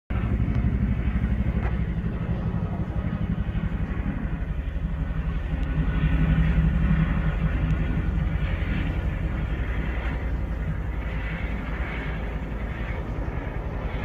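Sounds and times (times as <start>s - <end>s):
helicopter rotor pulsing: 0.1s - 14.0s.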